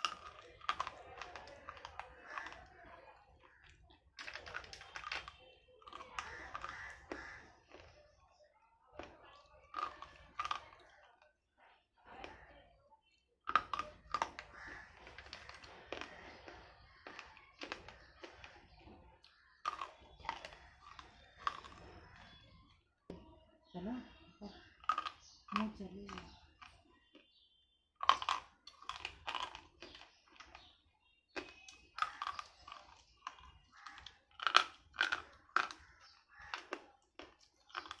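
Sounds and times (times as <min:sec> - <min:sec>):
crunching of chewed slate pencils: 0:00.0 - 0:11.4, 0:12.0 - 0:22.8, 0:24.7 - 0:38.0.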